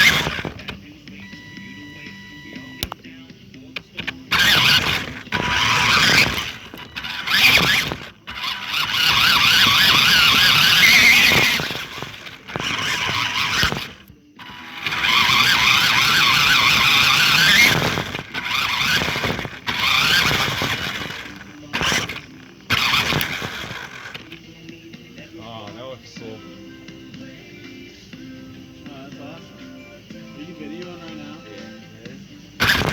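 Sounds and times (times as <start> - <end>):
toy car electric motor whining: 0.0 - 3.0, 3.6 - 25.6, 30.5 - 32.9.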